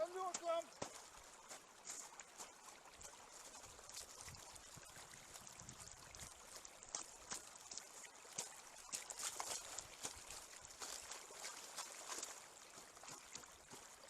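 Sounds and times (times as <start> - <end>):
stream trickling: 0.0 - 14.0.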